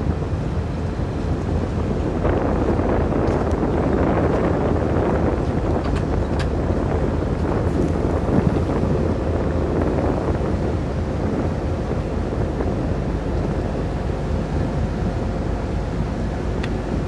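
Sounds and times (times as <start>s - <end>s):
ship engine drone: 0.0s - 17.0s
wind buffeting microphone: 0.0s - 17.0s.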